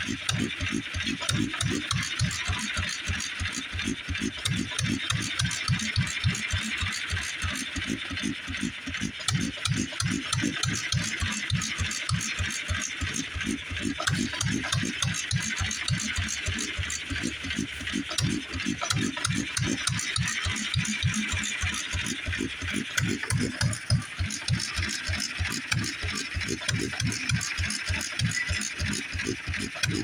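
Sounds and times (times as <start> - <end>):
stationary engine beating steadily: 0.0 - 30.0.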